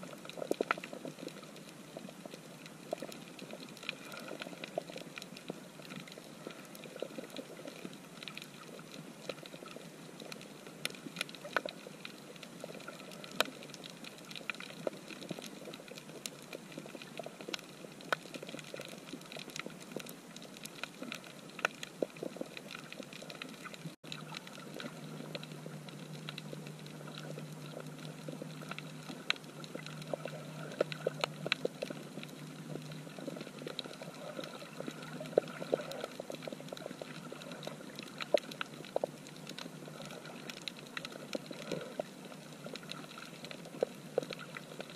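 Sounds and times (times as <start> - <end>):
sharp clicks and crackles: 0.0 - 44.9.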